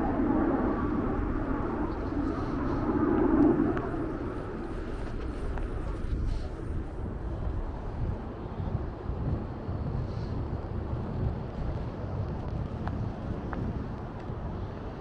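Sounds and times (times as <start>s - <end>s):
city street rumble: 0.0s - 15.0s.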